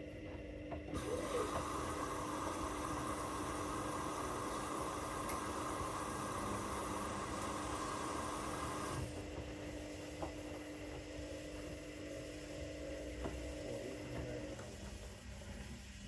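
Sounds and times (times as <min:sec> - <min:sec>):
washing machine motor whine: 0:00.0 - 0:16.0.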